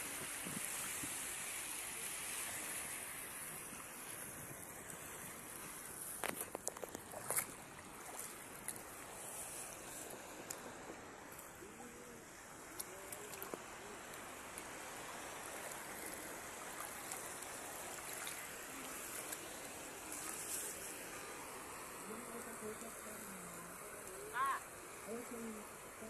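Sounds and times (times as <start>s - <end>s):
shallow seawater rushing: 0.0s - 6.4s, 7.1s - 26.0s.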